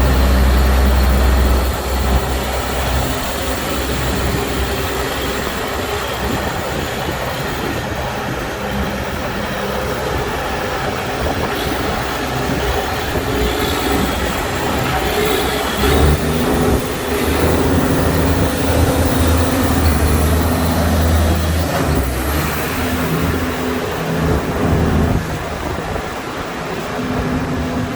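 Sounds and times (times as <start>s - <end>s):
tractor diesel engine rumbling: 0.0s - 27.9s.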